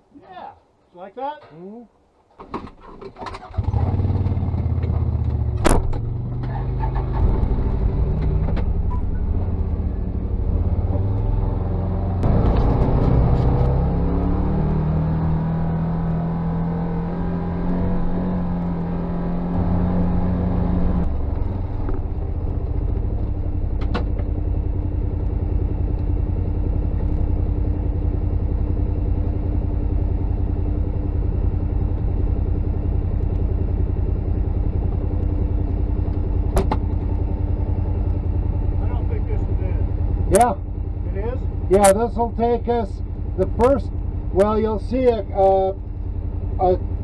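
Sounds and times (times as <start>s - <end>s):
engine low rumble: 2.8s - 47.0s.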